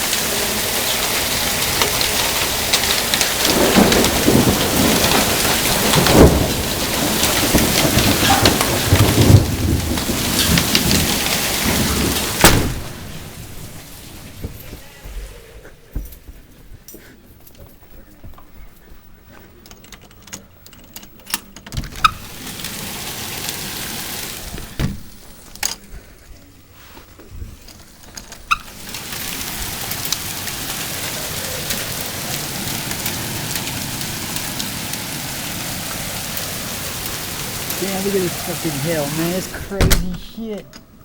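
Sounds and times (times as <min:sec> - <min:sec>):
hailstones striking: 0:00.0 - 0:15.3, 0:21.8 - 0:26.1, 0:27.3 - 0:40.7
hiss of hail and rain: 0:00.0 - 0:15.6, 0:21.8 - 0:41.0.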